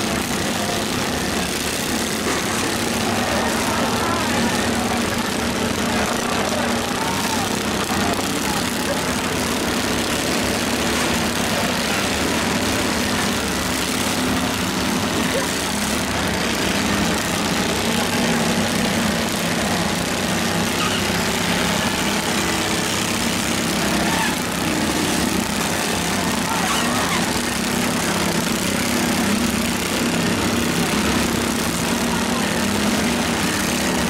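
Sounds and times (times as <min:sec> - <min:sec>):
crowd noise: 0:00.0 - 0:34.0
riding mower engines running: 0:00.0 - 0:34.0.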